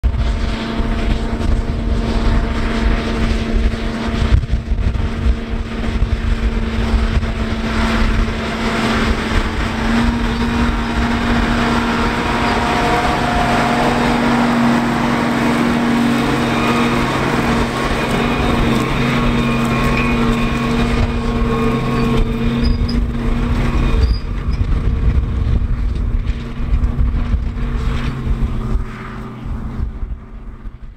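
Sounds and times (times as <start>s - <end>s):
tractor diesel engine under load: 0.0s - 30.9s
wind rumble on microphone: 0.0s - 30.9s.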